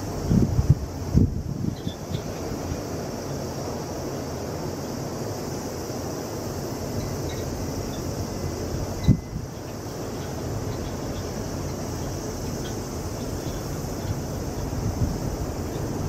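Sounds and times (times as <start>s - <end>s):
light hiss: 0.0s - 16.0s.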